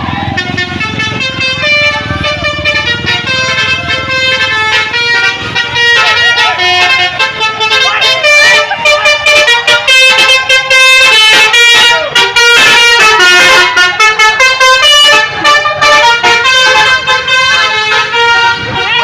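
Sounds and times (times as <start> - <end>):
multi-tone musical bus horn: 0.0 - 19.0.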